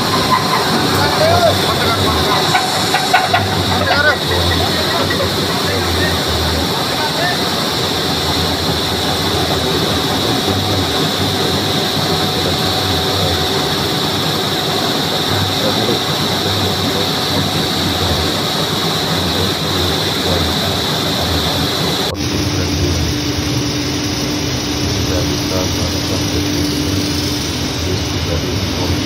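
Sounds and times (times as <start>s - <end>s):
machine drone with high whine: 0.0s - 29.0s.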